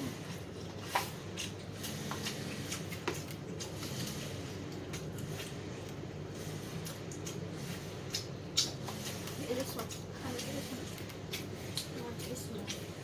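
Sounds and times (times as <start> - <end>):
chewing: 0.0 - 13.0
low background hum: 0.0 - 13.0.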